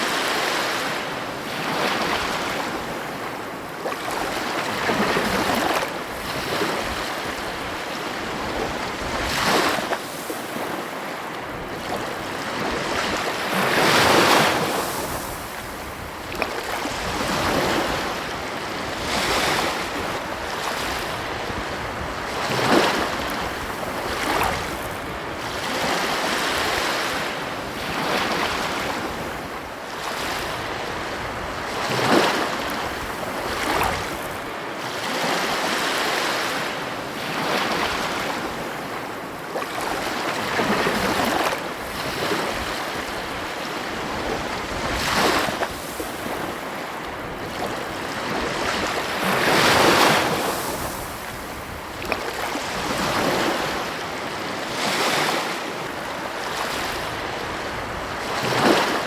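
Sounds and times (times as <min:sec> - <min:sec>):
wind on microphone: 0:00.0 - 0:10.8, 0:11.4 - 0:35.5, 0:39.7 - 0:59.0
ocean waves breaking: 0:00.0 - 0:59.0.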